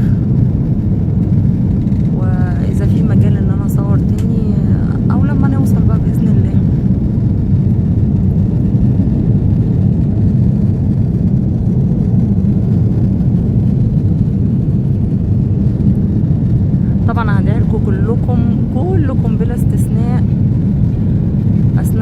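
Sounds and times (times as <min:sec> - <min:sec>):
jet engine drone in cabin: 0:00.0 - 0:22.0.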